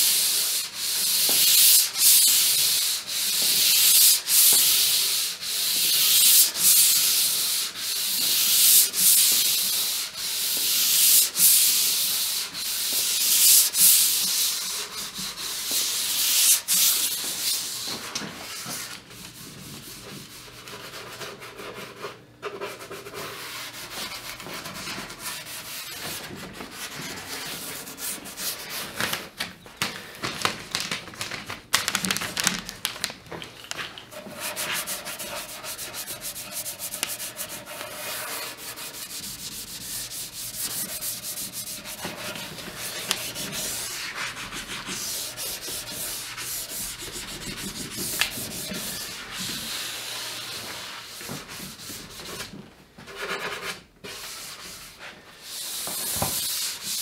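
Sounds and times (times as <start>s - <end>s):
hand sanding wood: 0.0s - 29.3s, 34.1s - 57.0s.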